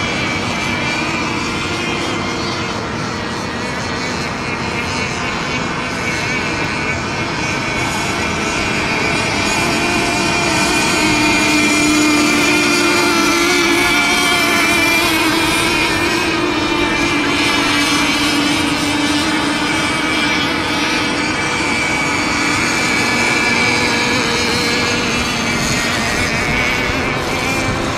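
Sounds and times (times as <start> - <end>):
racing model boat engines buzzing: 0.0 - 27.9.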